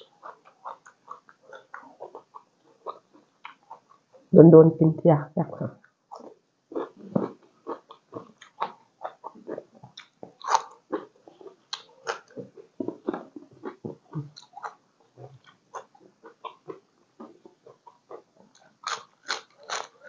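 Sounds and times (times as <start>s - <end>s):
person chewing crunchy food: 0.0s - 4.2s, 5.8s - 20.0s.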